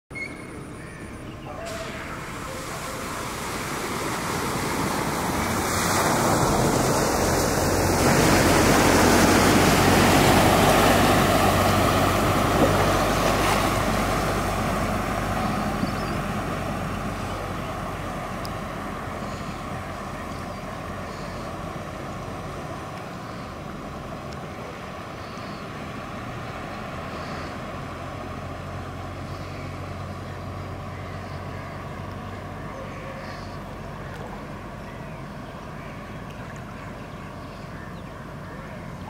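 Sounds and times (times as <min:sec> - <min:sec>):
low engine hum: 0:00.1 - 0:39.0
floodwater rushing: 0:00.2 - 0:39.0.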